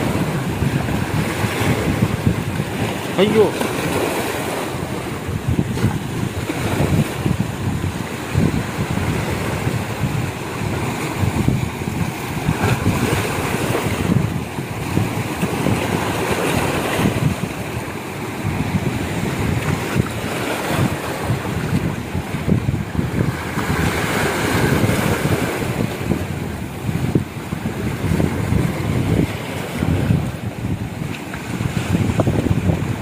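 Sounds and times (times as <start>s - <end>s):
sea surf breaking on rocks: 0.0s - 33.0s
wind buffeting microphone: 0.0s - 33.0s.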